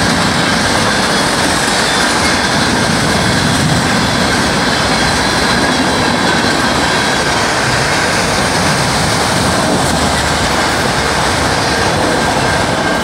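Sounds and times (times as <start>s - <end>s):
freight train wheels rolling: 0.0s - 13.0s.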